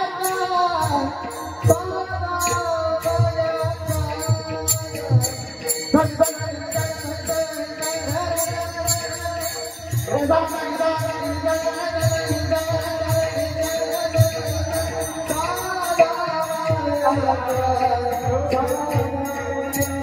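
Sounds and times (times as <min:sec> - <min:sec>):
man singing in a high voice: 0:00.0 - 0:20.0
metallic jingling percussion: 0:00.0 - 0:20.0.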